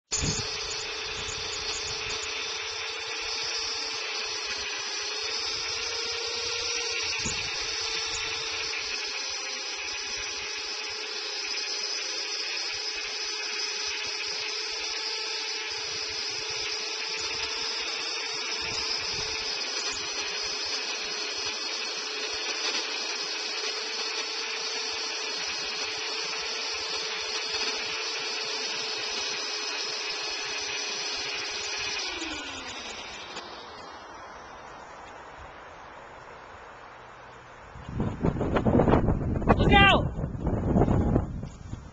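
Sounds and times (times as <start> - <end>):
chainsaw cutting wood: 0.1 - 36.8.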